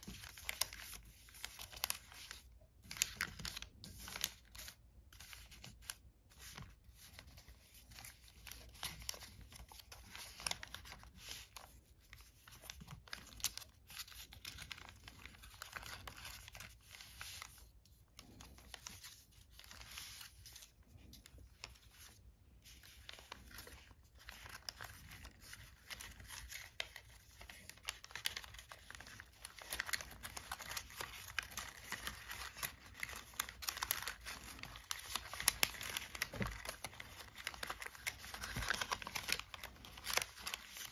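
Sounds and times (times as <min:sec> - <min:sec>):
paper rustling and crinkling: 0:00.0 - 0:40.9.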